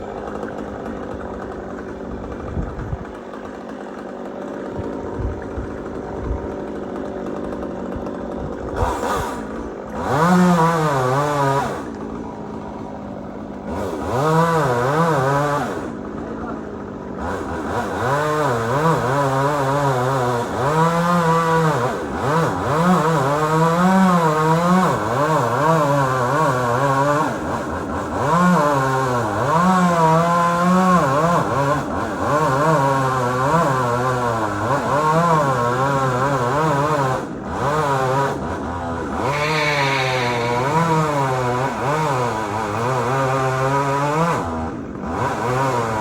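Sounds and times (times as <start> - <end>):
chainsaw cutting: 0.0 - 46.0.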